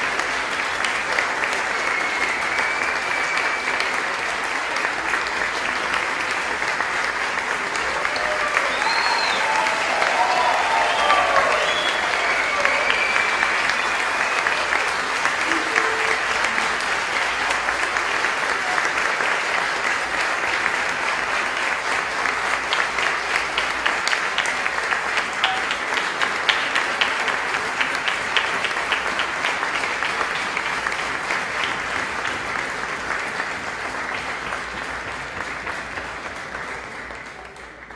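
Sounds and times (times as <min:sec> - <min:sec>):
audience applauding: 0:00.0 - 0:37.9.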